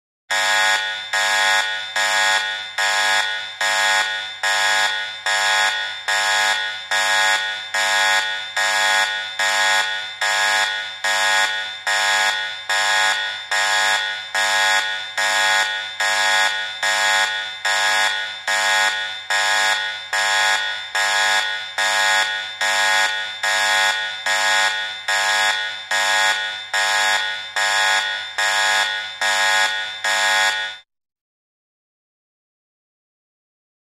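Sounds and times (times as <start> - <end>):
pulsing electronic buzzer alarm: 0.3 - 30.9.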